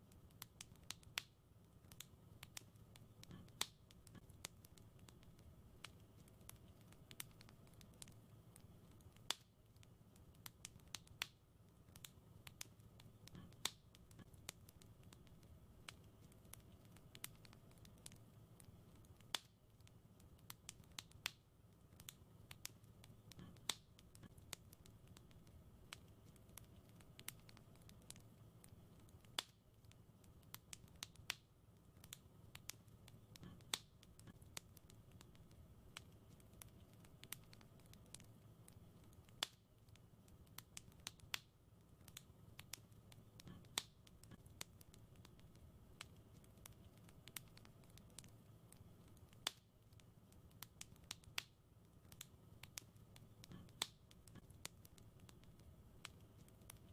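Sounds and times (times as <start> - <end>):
fire popping and snapping: 0.0 - 56.9
low rumble of fire: 0.0 - 56.9.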